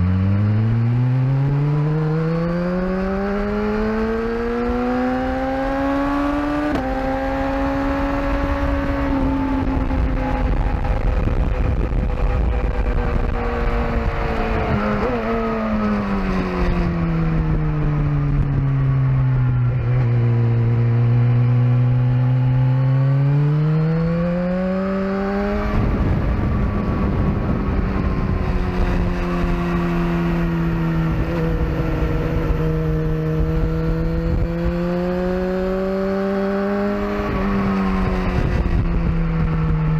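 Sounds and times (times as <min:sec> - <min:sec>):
motorcycle engine revving: 0:00.0 - 0:39.9
wind rush: 0:03.0 - 0:22.2, 0:23.9 - 0:39.9.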